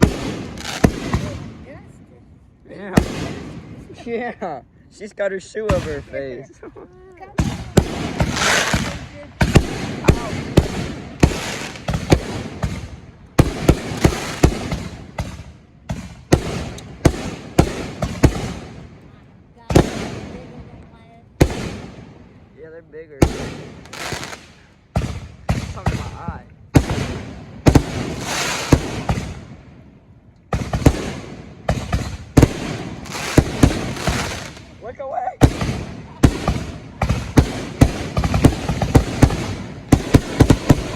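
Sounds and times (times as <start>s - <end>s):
fireworks bangs with crackle: 0.0s - 1.9s, 2.8s - 4.2s, 5.6s - 6.3s, 7.2s - 40.9s.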